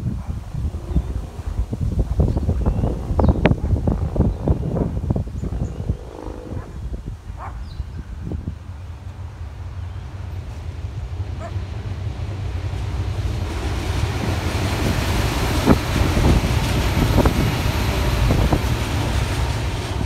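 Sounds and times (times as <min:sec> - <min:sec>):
train passing rumble and hiss: 0:00.0 - 0:20.0
wind buffeting microphone: 0:00.0 - 0:20.0.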